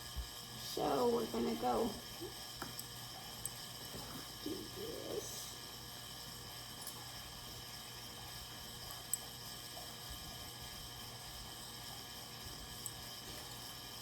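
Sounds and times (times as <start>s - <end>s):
heating fan humming: 0.0s - 14.0s.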